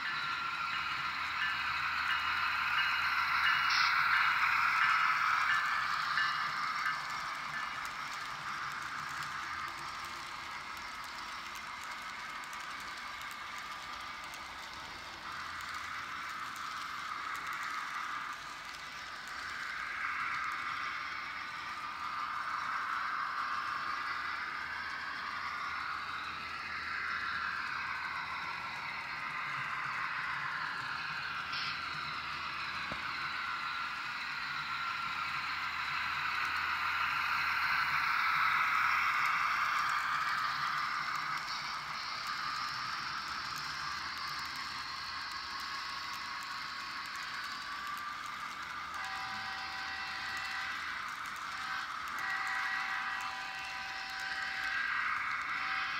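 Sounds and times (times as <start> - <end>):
model train wheels rolling on rails: 0.0 - 55.9.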